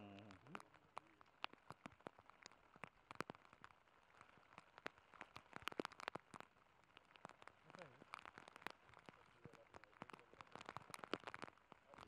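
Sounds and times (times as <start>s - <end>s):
hiss of falling rain: 0.0s - 12.0s
raindrops ticking: 0.0s - 12.0s.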